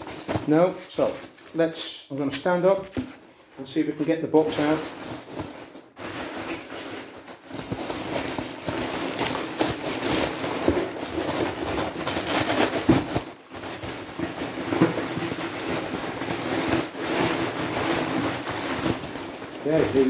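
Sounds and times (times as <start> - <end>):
hands rummaging through foam chips: 0.0 - 20.0.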